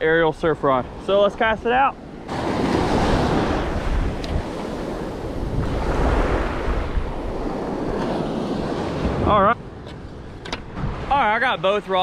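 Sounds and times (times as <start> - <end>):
waves breaking on beach: 0.0 - 12.0
wind buffeting microphone: 0.0 - 12.0.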